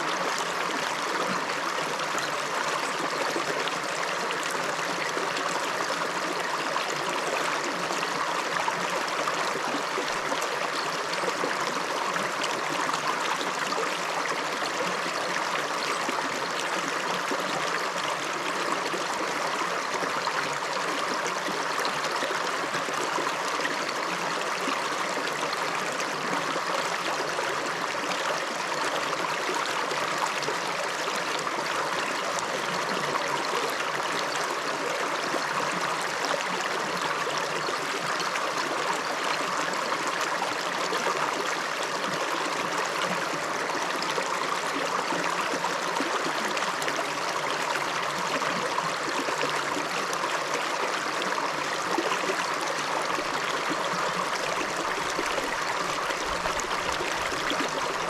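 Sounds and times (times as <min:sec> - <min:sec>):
river babbling over stones: 0:00.0 - 0:58.0.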